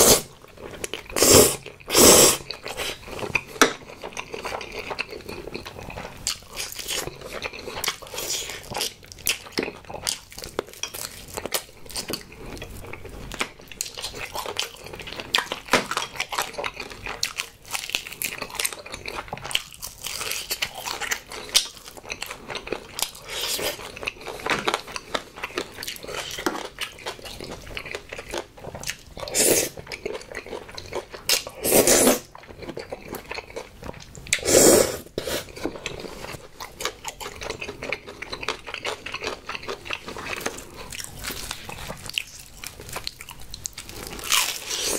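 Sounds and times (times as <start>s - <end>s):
wet chewing: 0.0s - 34.5s, 35.1s - 44.9s
crunching fried chicken: 2.4s - 34.4s, 35.4s - 44.9s.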